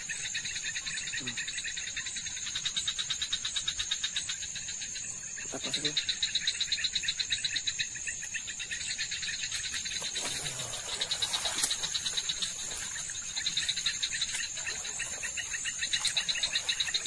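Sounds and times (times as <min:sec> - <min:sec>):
frogs chirping: 0:00.0 - 0:17.0
insect buzz: 0:00.0 - 0:17.0.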